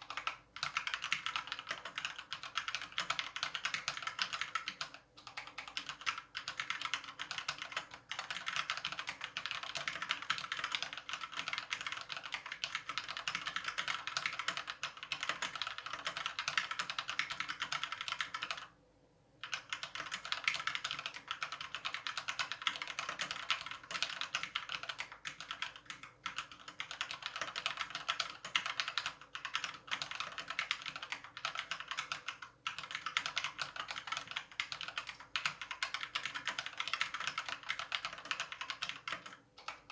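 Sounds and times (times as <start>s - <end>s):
mechanical keyboard typing: 0.0s - 18.7s, 19.4s - 39.9s.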